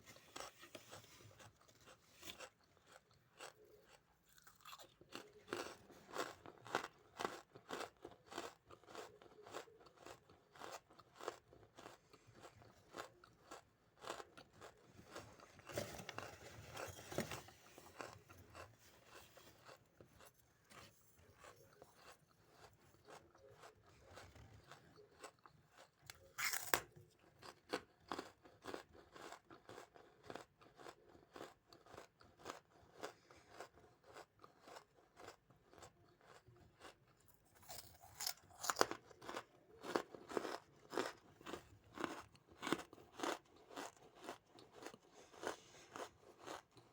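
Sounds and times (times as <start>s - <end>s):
chewing and crunching charcoal: 0.0s - 46.9s.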